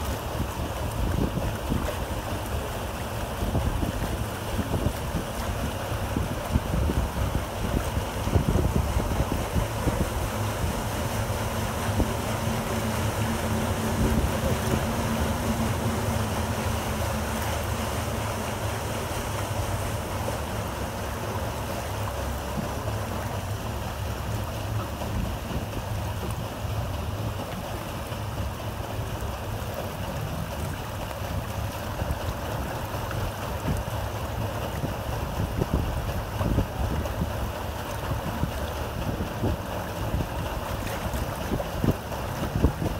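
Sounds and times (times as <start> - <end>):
low engine hum: 0.0 - 42.9
water rushing and churning: 0.0 - 42.9
wind buffeting microphone: 0.0 - 42.9.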